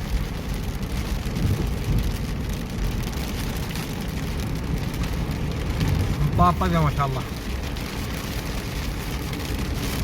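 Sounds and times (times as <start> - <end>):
rain ticking on car: 0.0 - 10.0
road and engine rumble: 0.0 - 10.0.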